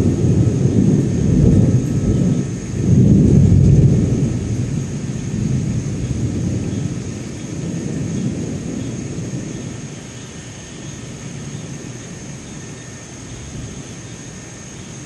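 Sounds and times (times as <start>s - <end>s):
rolling thunder: 0.0s - 14.1s.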